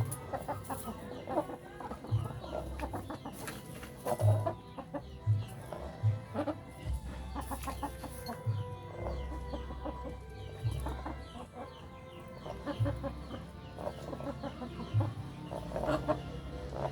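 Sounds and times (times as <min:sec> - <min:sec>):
chickens clucking: 0:00.0 - 0:16.9.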